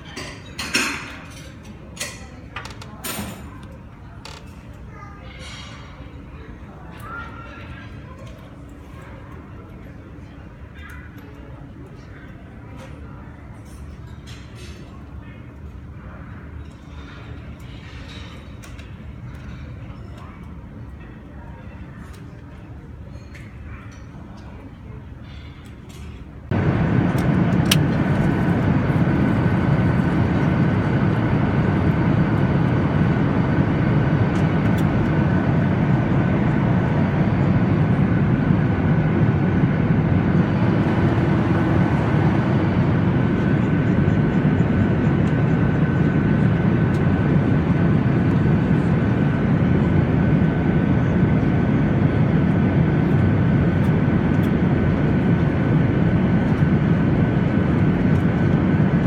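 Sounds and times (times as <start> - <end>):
jet engines and airflow roar: 0.0 - 59.0.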